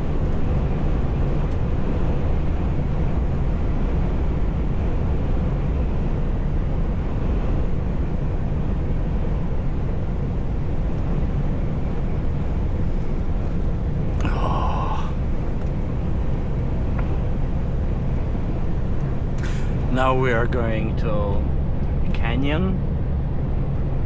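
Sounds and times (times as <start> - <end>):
truck engine and road noise: 0.0 - 24.0.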